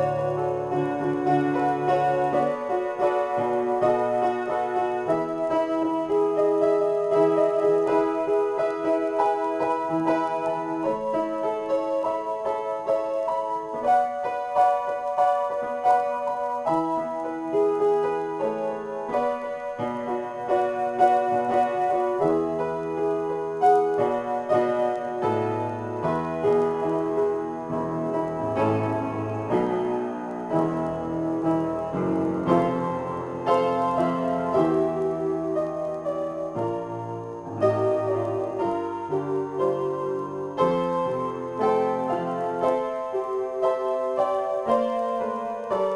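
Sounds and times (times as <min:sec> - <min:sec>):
upright piano improvisation: 0:00.0 - 0:45.9.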